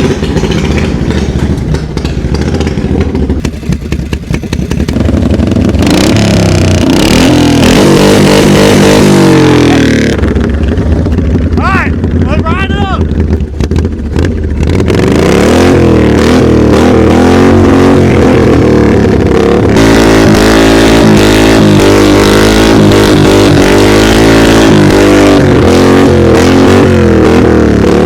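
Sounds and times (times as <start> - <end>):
lawnmower engine revving: 0.0 - 28.0.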